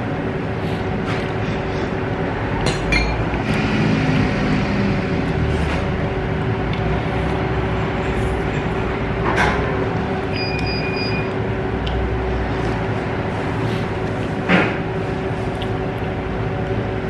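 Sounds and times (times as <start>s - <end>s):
restaurant room hum: 0.0s - 17.0s.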